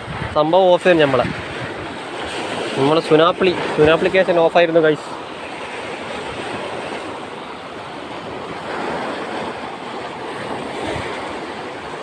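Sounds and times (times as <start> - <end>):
sea waves breaking over rocks: 0.0 - 12.0.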